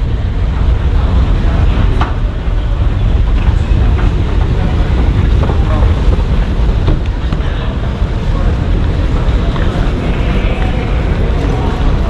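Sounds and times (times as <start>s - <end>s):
indistinct voices: 0.0s - 12.0s
steady low rumble: 0.0s - 12.0s.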